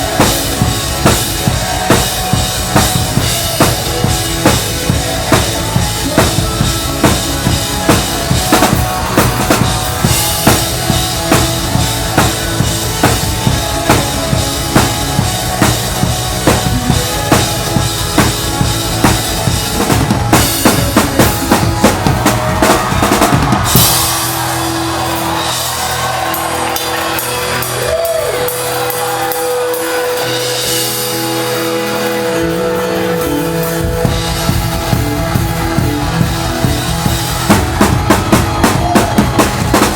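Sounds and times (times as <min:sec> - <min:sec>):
band playing: 0:00.0 - 0:39.9
drum kit beat and fills: 0:00.0 - 0:39.9
sustained keyboard chords: 0:00.0 - 0:39.9.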